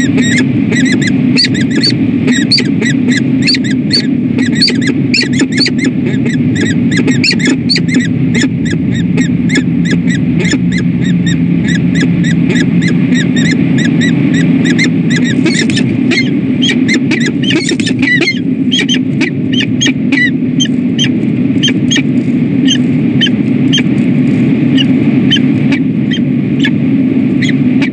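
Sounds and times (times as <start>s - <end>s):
falcons squeaky calls: 0.0s - 23.9s, 24.7s - 26.8s, 27.4s - 27.9s
steady low hum: 0.0s - 27.9s.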